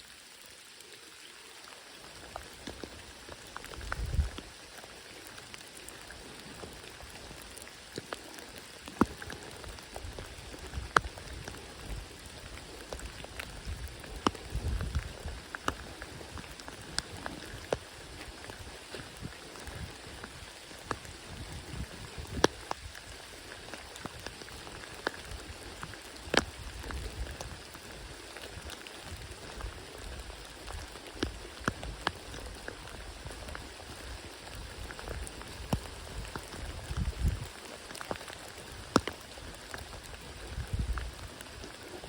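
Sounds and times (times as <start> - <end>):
rain falling: 0.0 - 42.0
heavy raindrops striking: 1.9 - 42.0.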